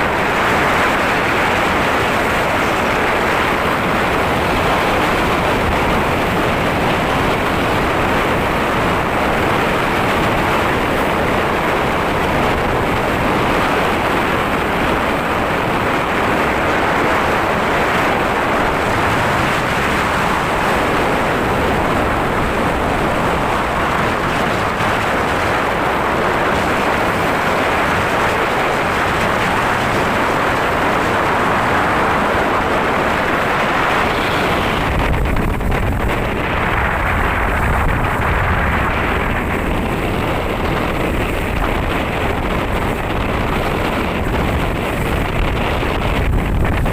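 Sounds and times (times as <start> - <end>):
boat rushing through rough water: 0.0 - 46.9.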